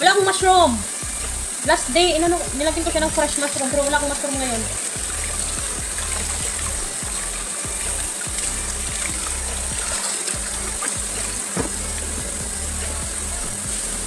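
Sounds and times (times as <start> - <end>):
background music: 0.0 - 14.0
kitchen tap running: 0.0 - 14.0.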